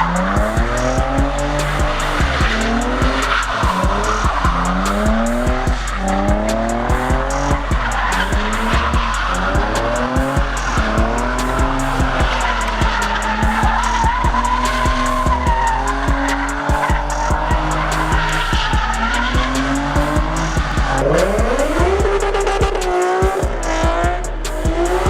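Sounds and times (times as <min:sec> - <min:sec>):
tyres squealing: 0:00.0 - 0:23.0
car engine revving: 0:00.0 - 0:25.0
music with quick beat: 0:00.0 - 0:25.0.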